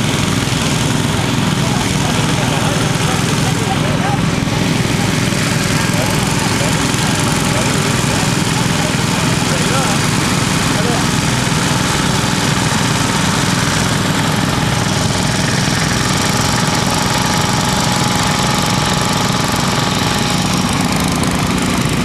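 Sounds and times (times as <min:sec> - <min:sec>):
small tractor engine running: 0:00.0 - 0:22.0.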